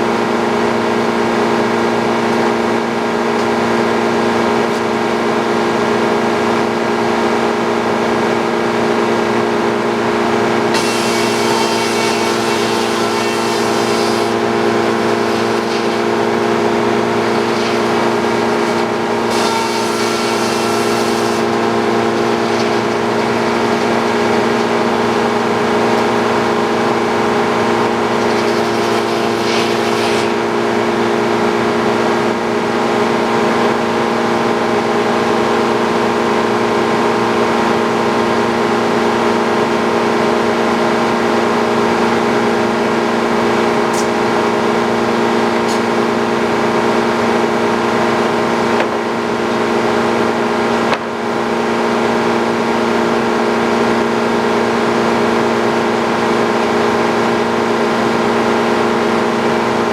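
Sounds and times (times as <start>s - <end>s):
sawmill machine hum: 0.0s - 59.9s.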